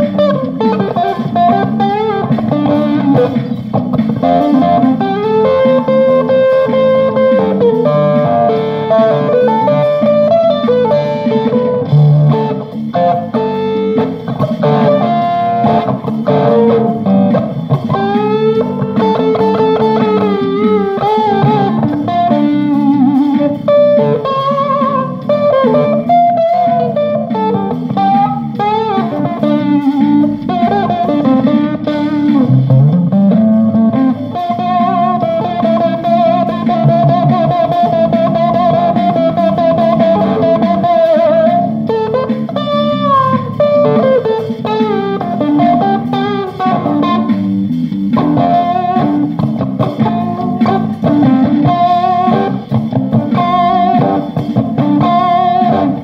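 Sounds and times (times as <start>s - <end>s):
blues guitar jam: 0.0s - 56.0s.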